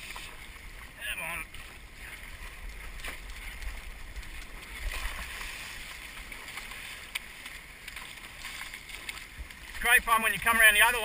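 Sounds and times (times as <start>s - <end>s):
water rushing and splashing: 0.0s - 11.0s
wind rumble on microphone: 0.0s - 11.0s.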